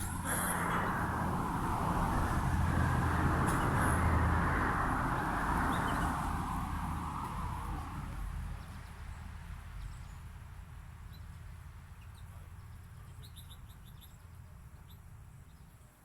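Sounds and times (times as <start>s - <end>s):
road vehicle rumble: 0.0s - 16.0s.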